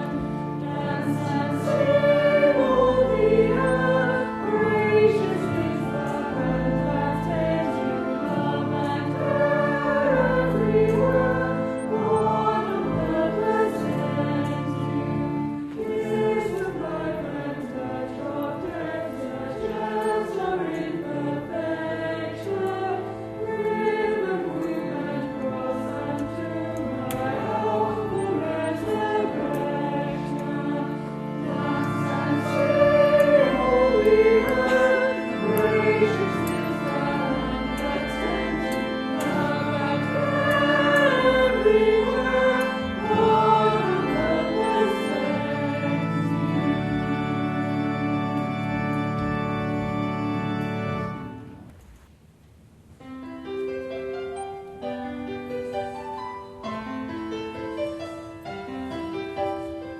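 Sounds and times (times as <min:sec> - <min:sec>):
low sustained accompaniment: 0:00.0 - 0:51.6
church choir singing: 0:00.0 - 0:51.7, 0:53.1 - 0:59.9.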